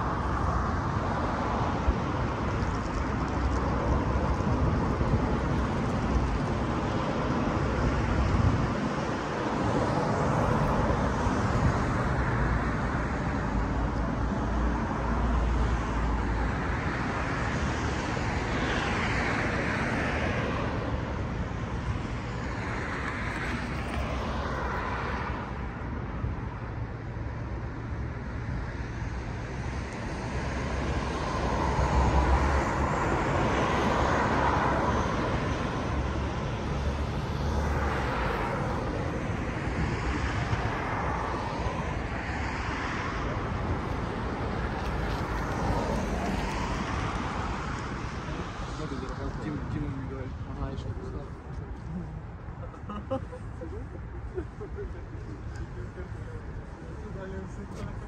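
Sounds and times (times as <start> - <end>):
low traffic rumble: 0.0 - 58.0
vehicles passing: 0.0 - 58.0.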